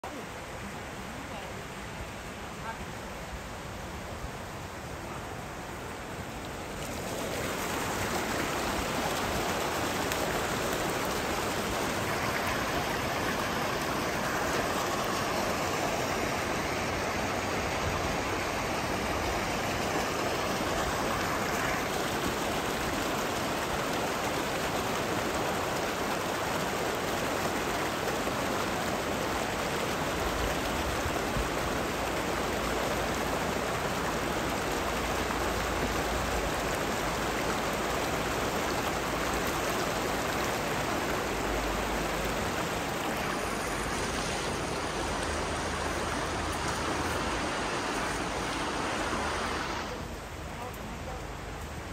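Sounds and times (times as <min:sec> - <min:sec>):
river rushing over boulders: 0:00.0 - 0:51.9.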